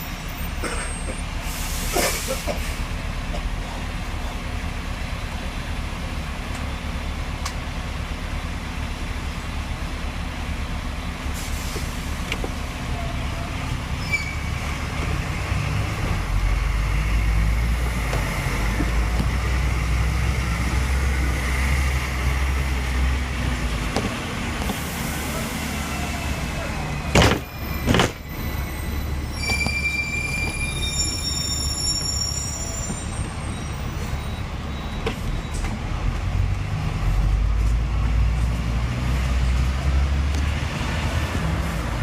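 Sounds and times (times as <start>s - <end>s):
tram motor and wheels rumbling: 0.0s - 42.0s.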